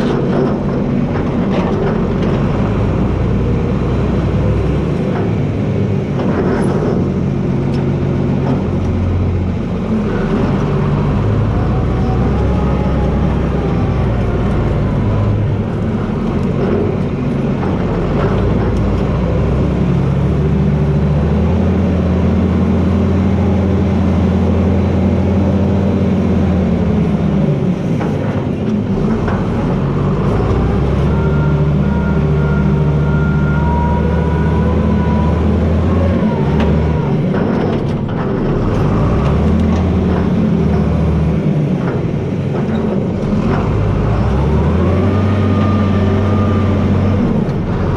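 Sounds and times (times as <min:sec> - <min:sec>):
tractor diesel engine under load: 0:00.0 - 0:47.9.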